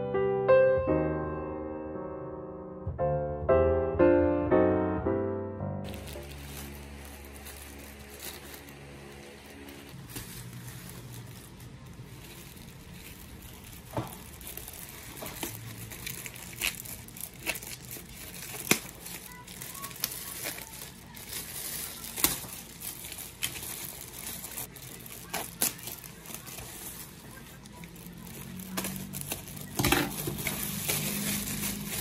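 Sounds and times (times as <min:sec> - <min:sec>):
plastic bag crinkling and tearing: 0:05.9 - 0:32.0.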